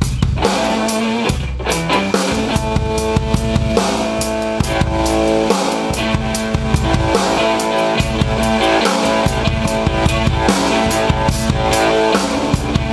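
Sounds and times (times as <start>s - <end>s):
drum kit beat: 0.0s - 12.9s
electric guitar chords: 0.0s - 12.9s.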